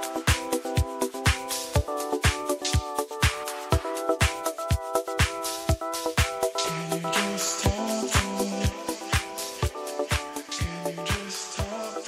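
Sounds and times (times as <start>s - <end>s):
kick drum beat: 0.0s - 11.8s.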